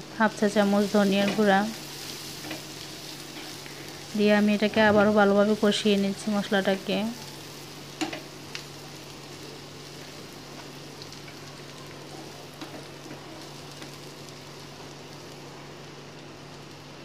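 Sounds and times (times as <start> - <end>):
masala sizzling in hot oil: 0.0 - 17.0.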